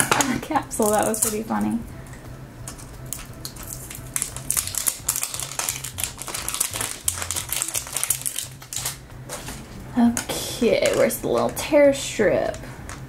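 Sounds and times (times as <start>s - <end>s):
plastic wrapper crinkling: 0.0s - 1.6s, 2.7s - 11.7s.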